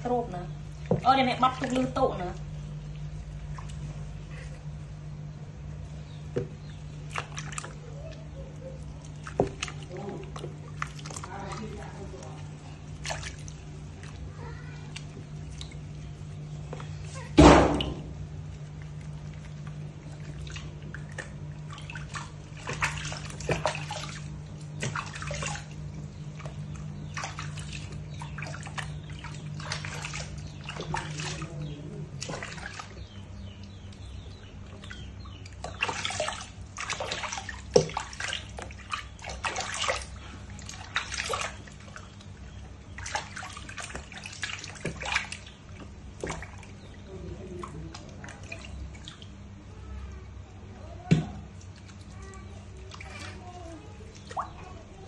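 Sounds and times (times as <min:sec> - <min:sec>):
water splashing in plastic tub: 0:00.0 - 0:55.0.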